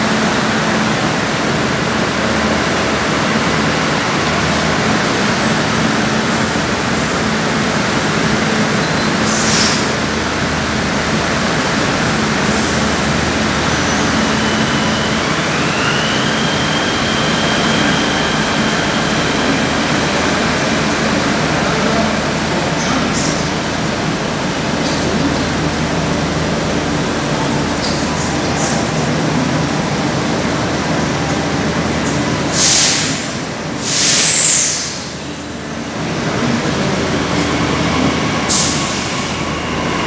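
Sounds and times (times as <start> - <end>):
train rushing into platform: 0.0 - 40.0.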